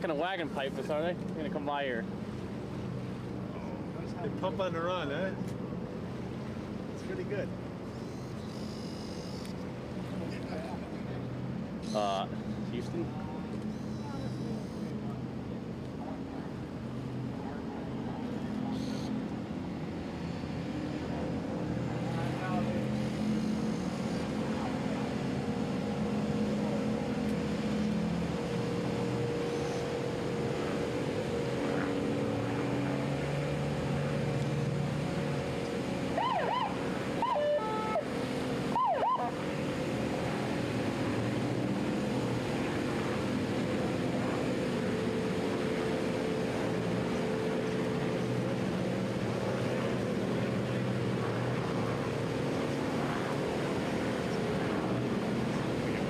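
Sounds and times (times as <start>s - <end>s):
boat engines running: 0.0s - 56.0s
water noise: 0.0s - 56.0s
wind: 0.0s - 56.0s.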